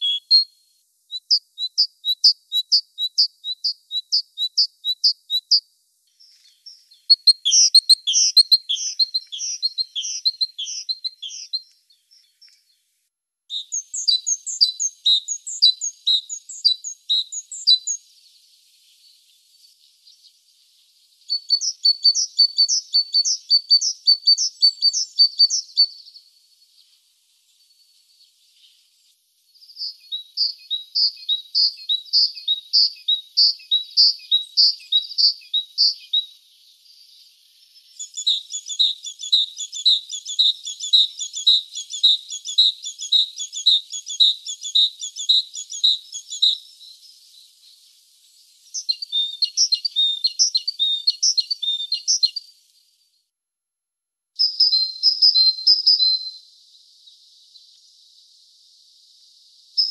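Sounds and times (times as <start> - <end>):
bird singing high phrase: 0.0 - 12.7, 13.5 - 20.4, 21.1 - 26.4, 29.5 - 47.6, 48.7 - 52.5, 54.4 - 57.8, 59.4 - 59.9.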